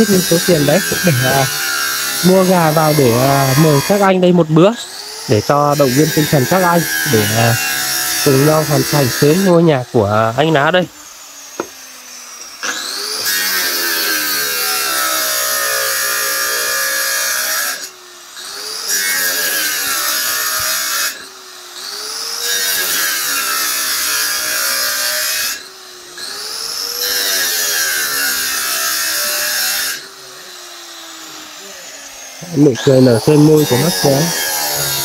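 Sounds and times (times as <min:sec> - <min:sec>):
circular saw cutting wood: 0:00.0 - 0:35.0.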